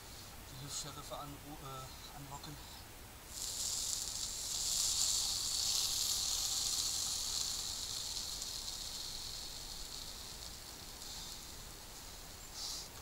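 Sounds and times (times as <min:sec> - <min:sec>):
embers hissing: 0:01.8 - 0:13.0.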